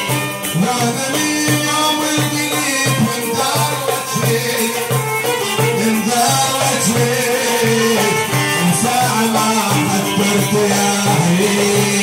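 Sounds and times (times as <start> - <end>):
hand drums: 0.0 - 12.0
oud playing: 0.0 - 12.0.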